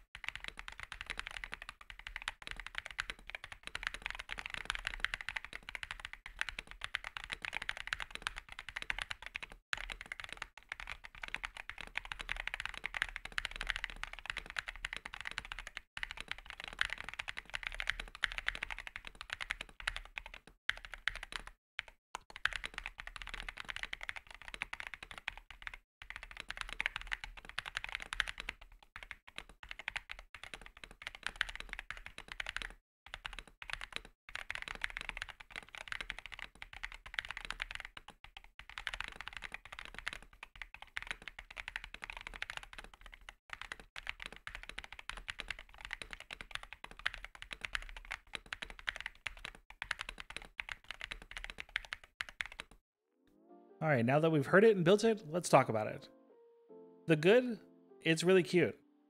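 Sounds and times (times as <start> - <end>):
fast mechanical keyboard typing: 0.0 - 52.8.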